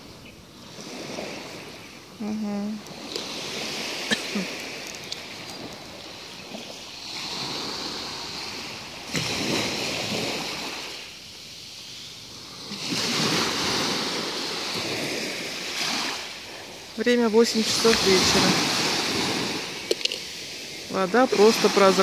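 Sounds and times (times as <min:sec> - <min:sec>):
small waves breaking on shore: 0:00.0 - 0:22.0.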